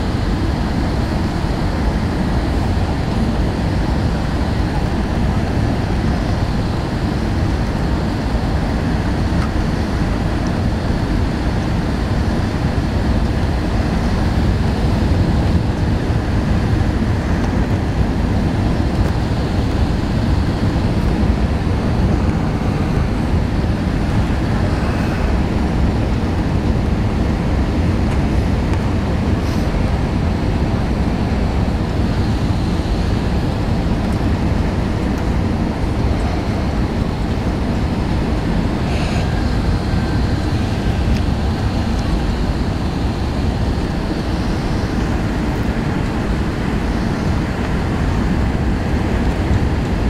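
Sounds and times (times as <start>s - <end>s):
airplane cabin engine roar: 0.0s - 50.0s.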